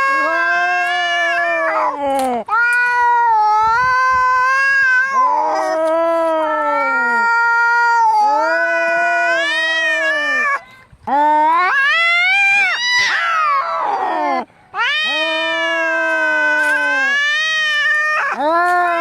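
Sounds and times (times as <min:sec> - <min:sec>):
cats yowling in a fight: 0:00.0 - 0:10.6, 0:11.4 - 0:19.0.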